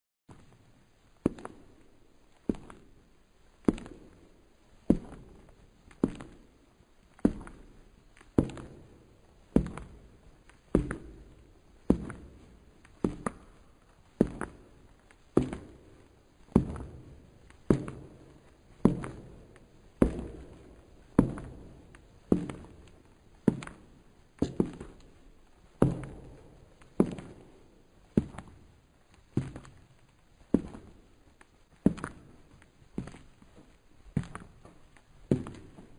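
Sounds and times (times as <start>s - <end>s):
hard shoe footsteps on stone: 0.3s - 35.9s.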